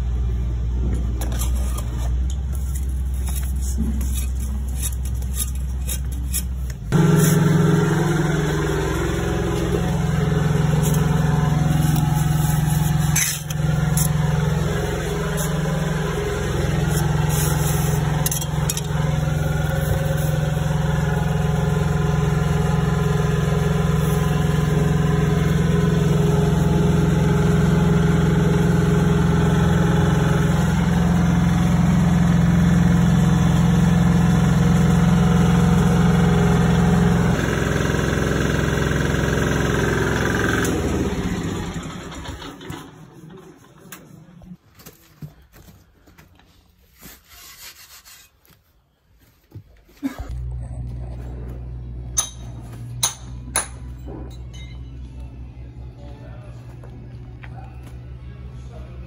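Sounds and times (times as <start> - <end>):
engine running steadily: 0.0 - 44.5, 50.0 - 59.0.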